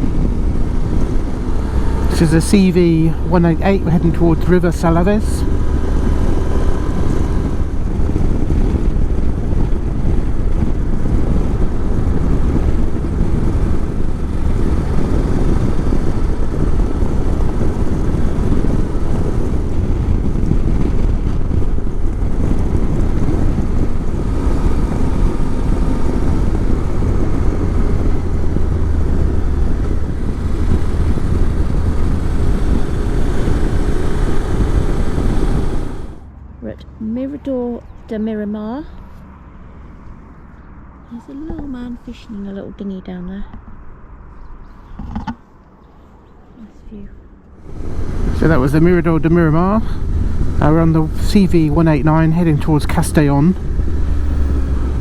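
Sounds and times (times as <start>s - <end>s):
wind rush over microphone: 0.0s - 36.4s, 38.9s - 55.0s
motorcycle engine: 0.0s - 55.0s.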